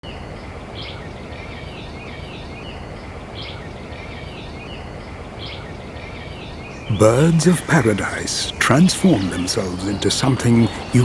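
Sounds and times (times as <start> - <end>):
birds calling and chirping: 0.0 - 11.0
outdoor background hiss: 0.0 - 11.0.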